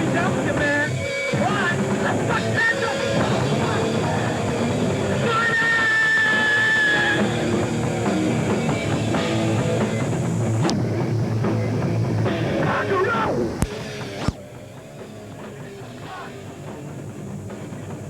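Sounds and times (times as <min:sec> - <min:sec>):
punk band playing live: 0:00.0 - 0:18.0.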